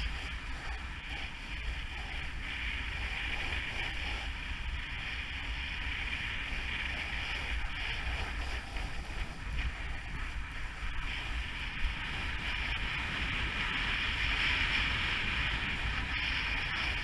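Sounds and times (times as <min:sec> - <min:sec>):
snow rushing hiss: 0:00.0 - 0:17.0
wind buffeting microphone: 0:00.0 - 0:17.0.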